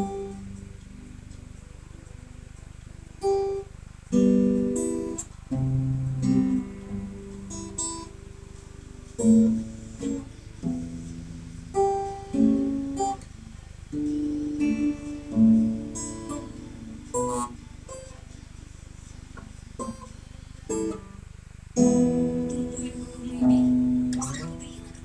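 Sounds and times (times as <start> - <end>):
acoustic guitar plucking: 0.0 - 25.0.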